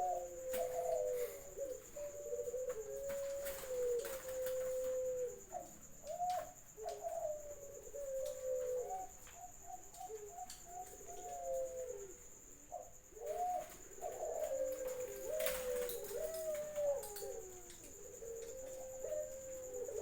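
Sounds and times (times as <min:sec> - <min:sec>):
doves cooing: 0:00.0 - 0:20.0.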